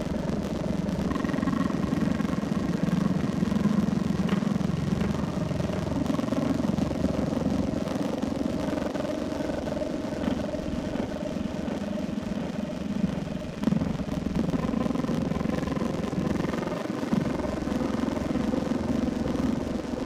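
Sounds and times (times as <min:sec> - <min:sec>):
faint whine: 0:00.0 - 0:20.0
vehicle engine drone: 0:00.0 - 0:20.0.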